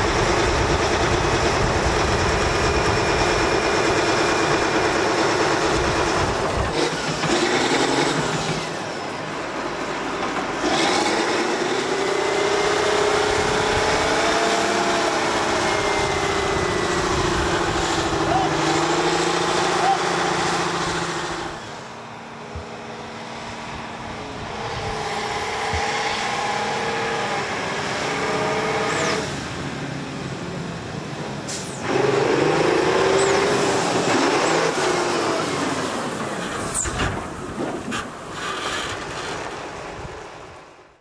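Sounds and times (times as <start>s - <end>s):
diesel truck engine under load: 0.0s - 41.0s.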